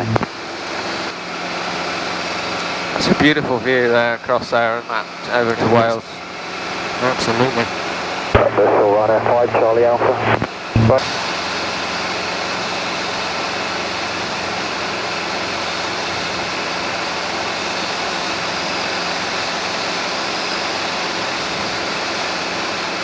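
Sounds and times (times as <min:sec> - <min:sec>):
helicopter cabin noise: 0:00.0 - 0:23.0.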